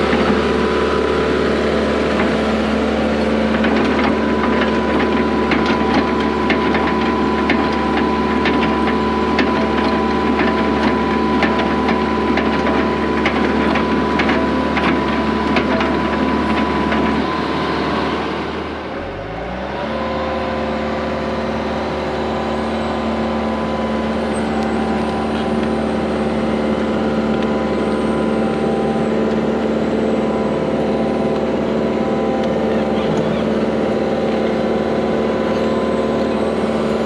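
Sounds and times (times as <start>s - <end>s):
heavy equipment engine under load: 0.0s - 37.0s.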